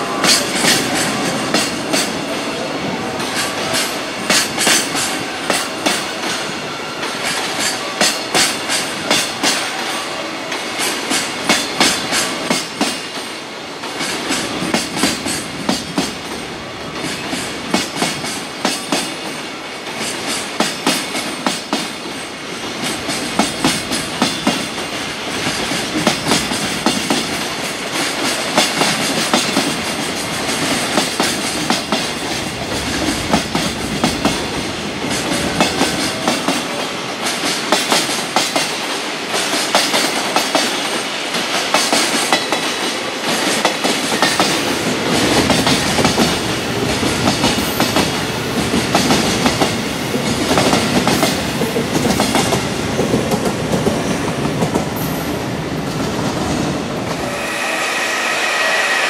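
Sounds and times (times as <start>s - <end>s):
freight train wheels clattering: 0.0s - 2.6s, 3.2s - 57.6s.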